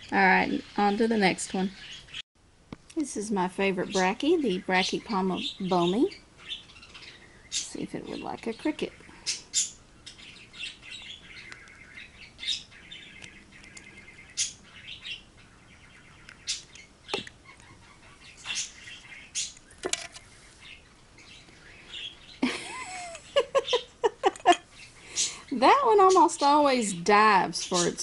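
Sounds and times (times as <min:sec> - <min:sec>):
small bird chirping: 0:03.4 - 0:28.0.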